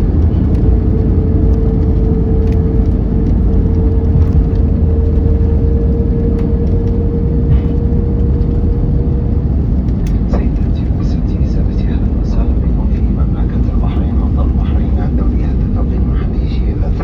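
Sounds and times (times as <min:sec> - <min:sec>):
low rumble of aircraft engines: 0:00.0 - 0:17.0
steady hum: 0:00.0 - 0:17.0.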